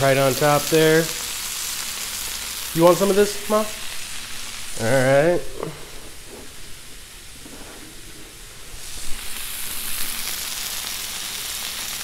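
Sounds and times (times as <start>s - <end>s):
meat sizzling on a griddle: 0.0s - 7.7s, 8.3s - 12.0s.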